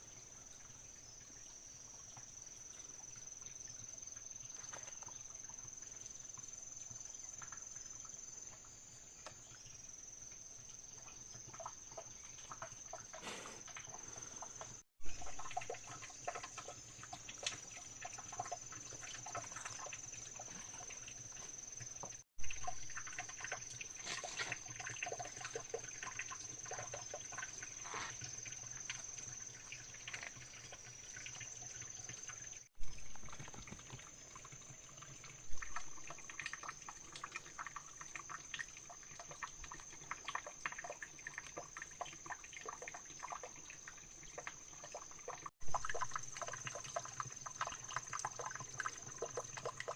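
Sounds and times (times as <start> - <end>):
water sloshing and trickling: 0.0 - 49.9
small splashes and clicks: 4.4 - 5.8, 10.9 - 49.9.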